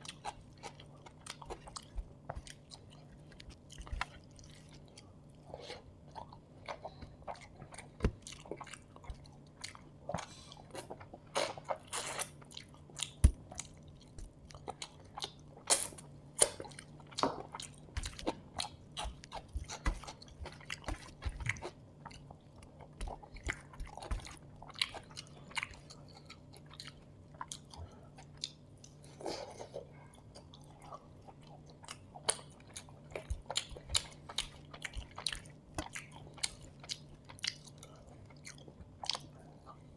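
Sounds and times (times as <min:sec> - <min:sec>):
wet chewing and crunching: 0:00.0 - 0:39.6
faint steady hum: 0:00.0 - 0:39.9.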